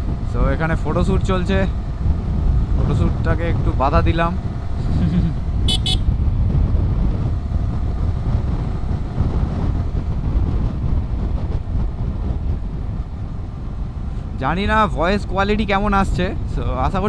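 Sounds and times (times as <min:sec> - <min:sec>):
motorcycle engine running: 0:00.0 - 0:16.7
wind rumble on microphone: 0:00.0 - 0:17.0.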